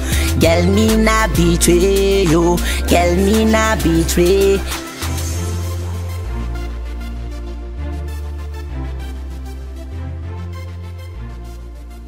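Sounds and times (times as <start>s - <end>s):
deep held bass notes: 0.0s - 10.5s.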